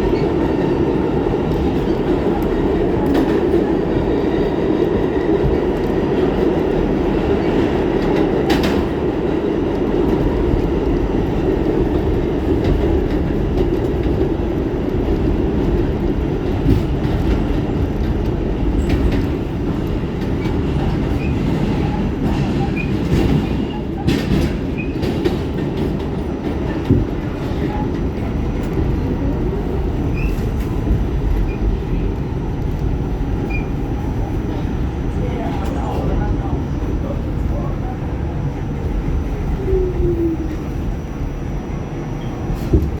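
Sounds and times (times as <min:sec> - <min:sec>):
subway car rumble: 0:00.0 - 0:43.0.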